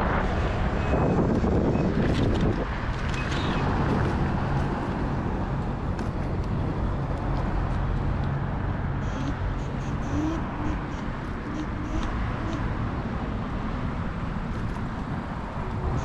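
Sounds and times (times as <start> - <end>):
low engine-like hum: 0.0 - 16.0
road traffic noise: 0.0 - 16.0.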